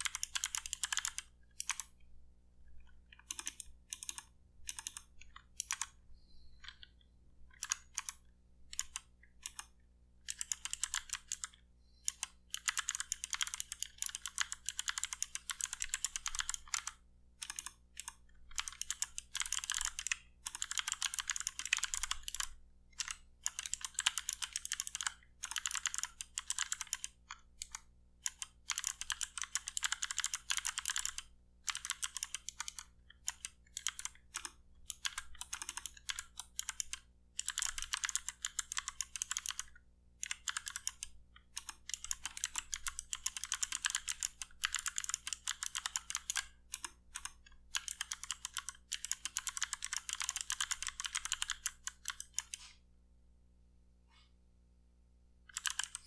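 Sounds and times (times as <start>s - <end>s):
mechanical keyboard typing: 0.0s - 2.0s, 2.7s - 6.0s, 6.6s - 52.6s, 55.5s - 56.0s.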